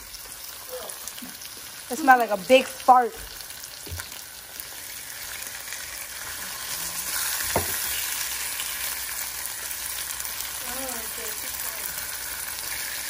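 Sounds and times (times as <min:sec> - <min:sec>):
bacon sizzling in a frying pan: 0:00.0 - 0:13.0
tongs moving bacon: 0:00.0 - 0:13.0.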